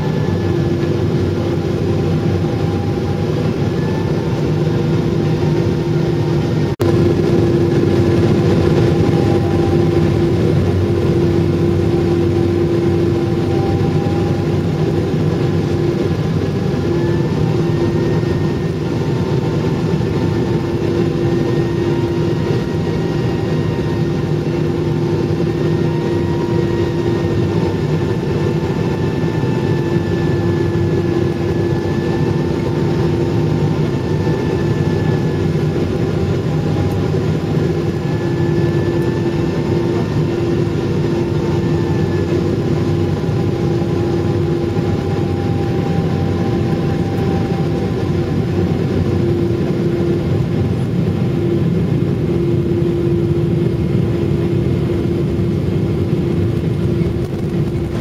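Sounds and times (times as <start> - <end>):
high engine whines: 0.0 - 58.0
jet cabin engine rumble: 0.0 - 58.0.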